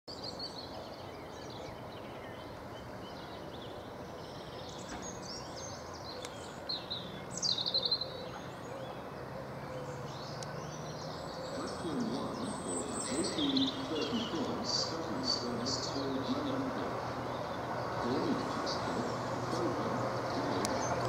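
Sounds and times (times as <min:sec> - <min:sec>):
birds singing: 0:00.1 - 0:21.0
faint low train drone: 0:00.1 - 0:21.0
loud rapid bird call: 0:00.6 - 0:21.0.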